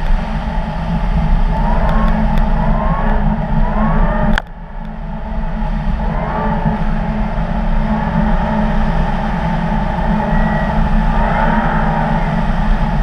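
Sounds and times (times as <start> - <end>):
wind and tyre noise: 0.0 - 13.0.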